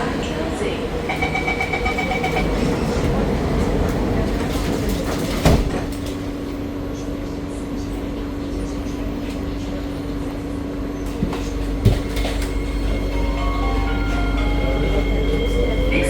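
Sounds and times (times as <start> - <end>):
metro train rumble and hum: 0.0 - 16.0.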